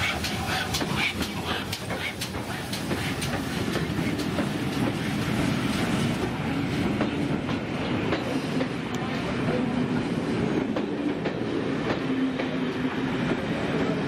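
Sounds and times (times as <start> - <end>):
train wheels clicking over rail joints: 0.0 - 9.6, 10.6 - 13.6
low train rumble: 0.0 - 14.0.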